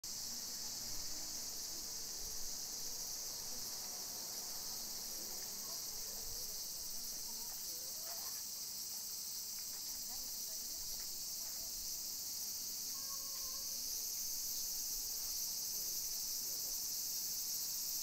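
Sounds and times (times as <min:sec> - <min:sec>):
high-pitched insect chorus: 0:00.1 - 0:18.0.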